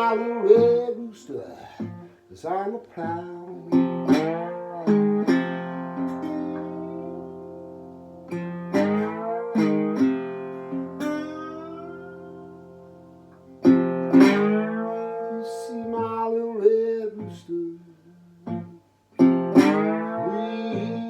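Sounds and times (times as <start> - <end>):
acoustic guitar blues: 0.0 - 21.0.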